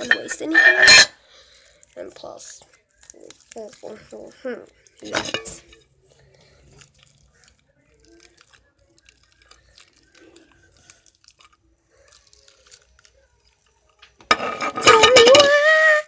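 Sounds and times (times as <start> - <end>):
slime squishing and crackling: 1.5 - 14.8.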